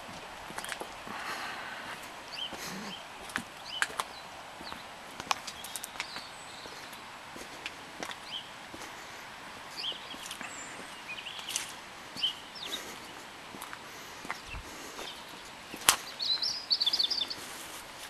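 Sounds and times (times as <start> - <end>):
songbirds chirping: 0.0 - 18.0
steady outdoor hiss: 0.0 - 18.0.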